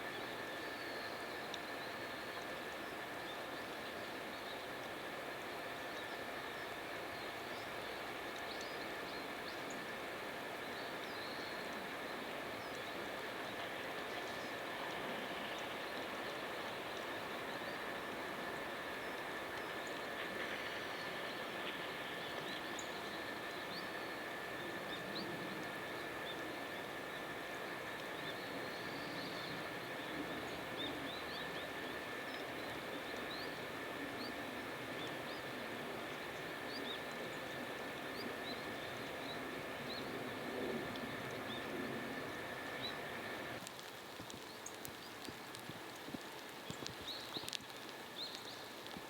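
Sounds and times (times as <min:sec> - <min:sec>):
light rain hiss: 0:00.0 - 0:49.0.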